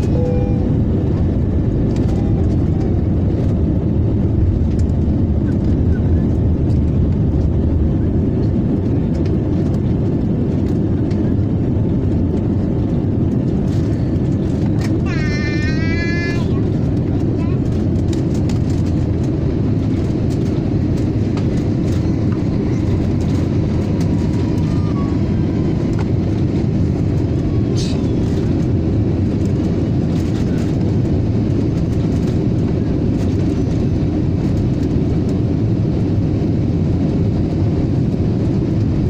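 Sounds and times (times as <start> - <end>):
jet engines roaring in cabin: 0.0 - 39.0.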